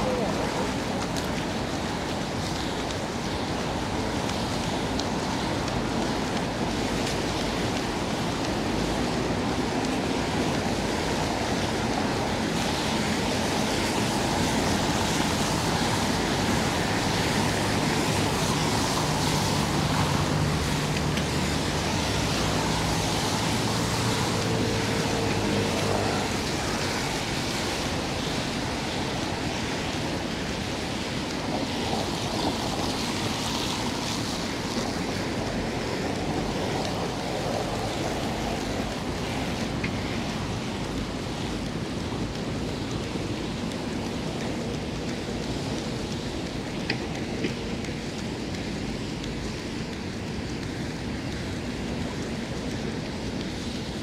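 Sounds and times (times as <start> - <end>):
city street traffic: 0.0 - 54.0
rain: 0.0 - 54.0.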